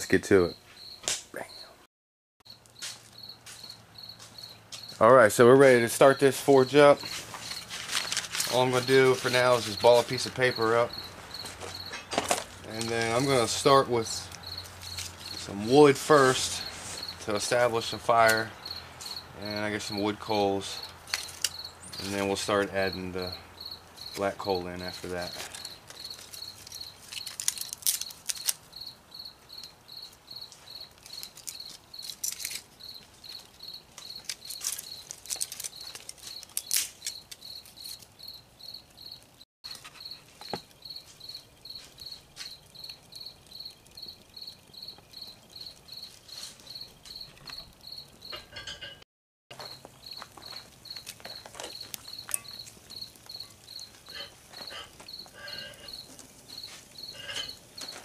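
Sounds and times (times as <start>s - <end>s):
crickets chirping: 0.3s - 1.8s, 2.5s - 58.0s
fire crackling: 2.5s - 58.0s.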